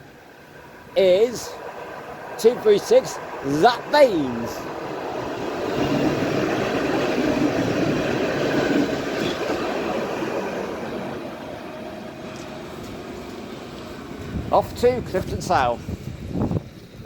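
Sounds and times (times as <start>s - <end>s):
tram rolling on rails: 0.0s - 17.0s.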